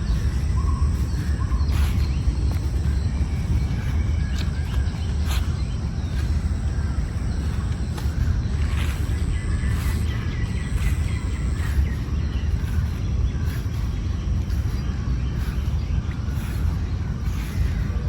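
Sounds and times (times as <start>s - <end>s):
faint bird chirps: 0.0s - 18.0s
low outdoor rumble: 0.0s - 18.0s.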